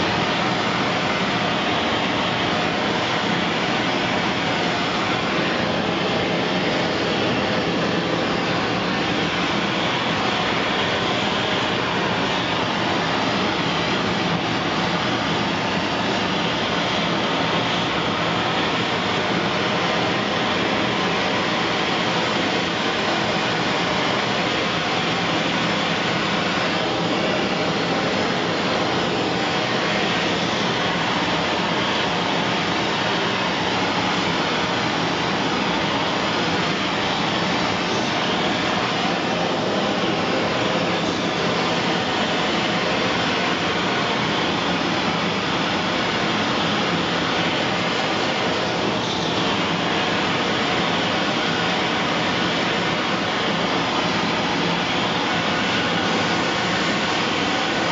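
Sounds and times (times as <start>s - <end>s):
torch flame hissing: 0.0s - 57.9s.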